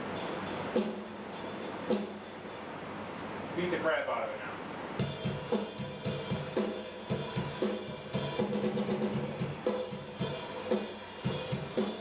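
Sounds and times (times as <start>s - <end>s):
drum kit playing a steady beat: 0.0s - 2.7s, 5.0s - 12.0s.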